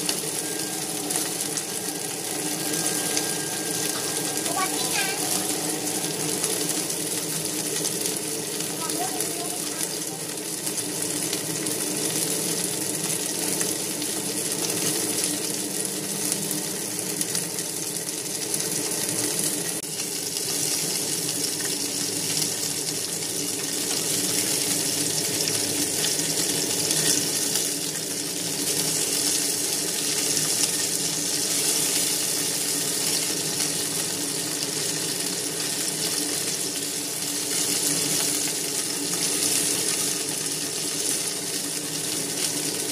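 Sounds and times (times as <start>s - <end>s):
chicken wings sizzling in a pan: 0.0s - 42.9s.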